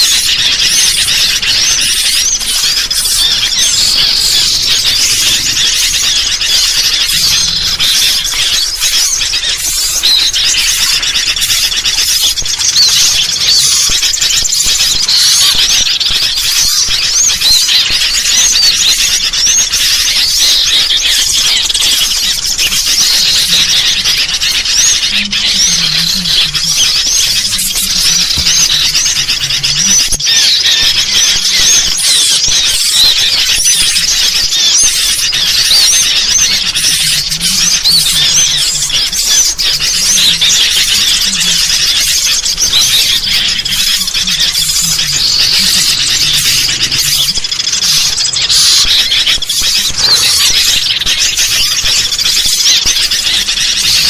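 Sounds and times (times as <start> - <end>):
small birds chirping and chattering: 0.0 - 54.0.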